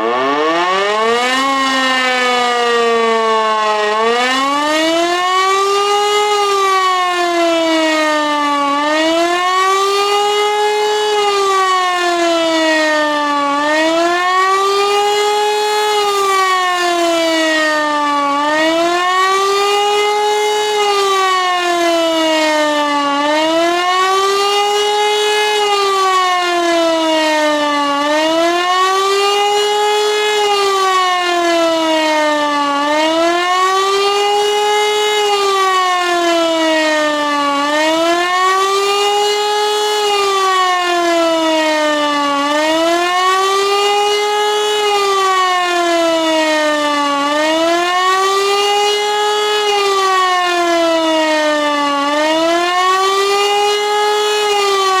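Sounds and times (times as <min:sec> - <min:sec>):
civil defence siren wailing: 0:00.0 - 0:55.0.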